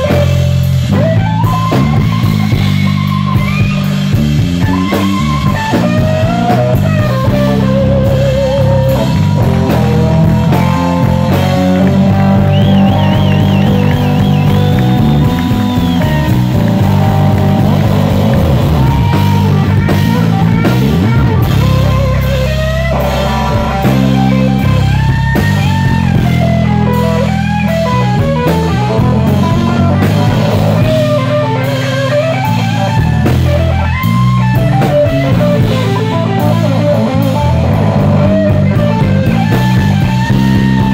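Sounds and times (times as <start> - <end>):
bass guitar: 0.0 - 40.9
drums: 0.0 - 40.9
electric guitar solo: 0.0 - 40.9.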